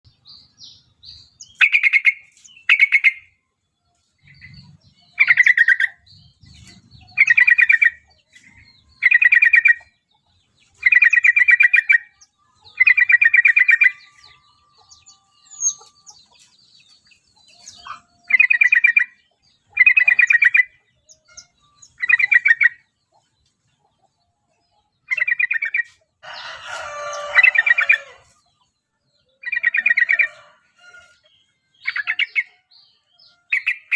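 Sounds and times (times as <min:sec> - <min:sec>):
bird singing warbled phrases: 0:00.1 - 0:30.5, 0:31.1 - 0:33.9.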